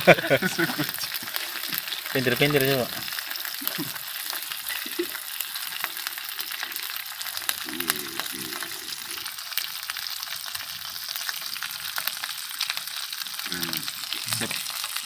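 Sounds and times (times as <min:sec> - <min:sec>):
food frying in hot oil: 0:00.0 - 0:15.0.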